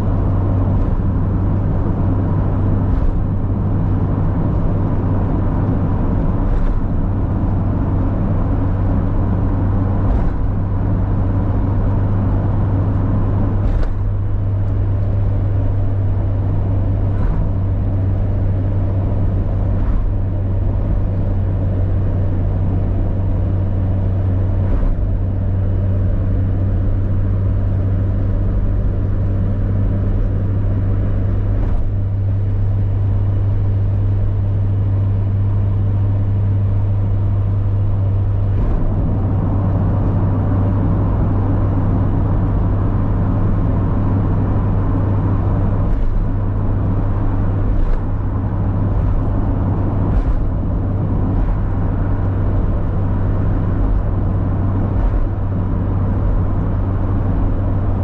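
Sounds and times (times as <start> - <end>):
car engine droning: 0.0 - 58.0
tyre and road noise: 0.0 - 58.0.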